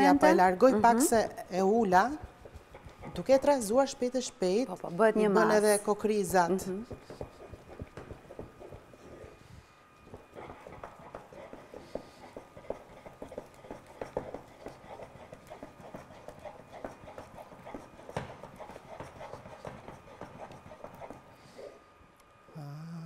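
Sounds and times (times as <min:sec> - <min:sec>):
wooden spoon beating thick mush: 0:01.2 - 0:04.3, 0:05.5 - 0:09.4, 0:10.0 - 0:21.5.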